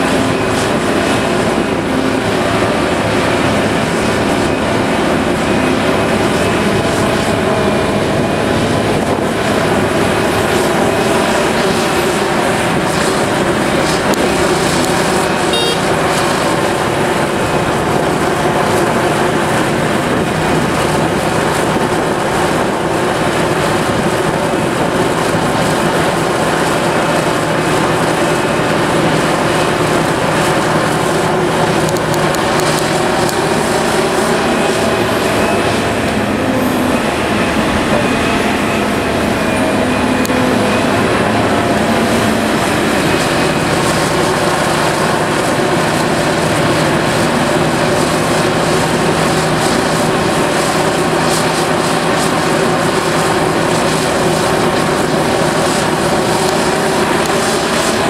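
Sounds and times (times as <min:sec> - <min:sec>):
excavator diesel engine running: 0:00.0 - 0:58.0
machinery working: 0:00.0 - 0:58.0.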